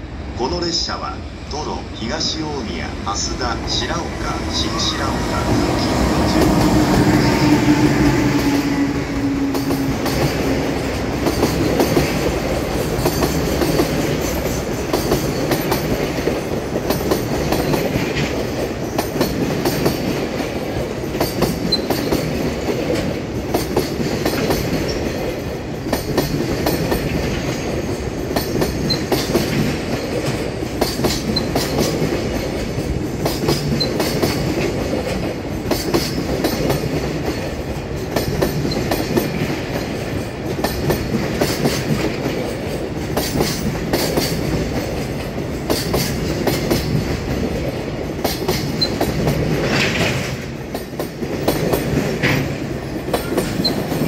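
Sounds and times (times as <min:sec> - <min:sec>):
train rumble: 0:00.0 - 0:54.0
train wheels clattering: 0:04.7 - 0:54.0.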